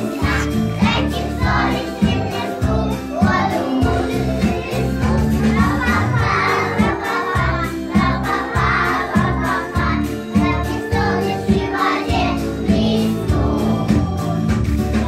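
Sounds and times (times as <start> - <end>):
children singing: 0.0 - 14.5
children's song with bass beat: 0.0 - 15.0.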